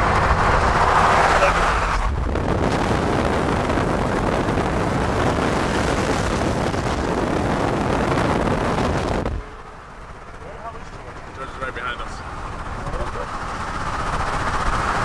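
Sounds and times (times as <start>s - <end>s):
car driving at speed: 0.0s - 15.0s.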